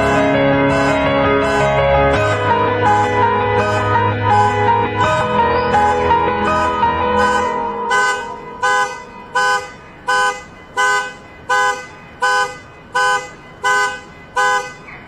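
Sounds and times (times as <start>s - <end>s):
car alarm horn honking: 0.0s - 15.0s.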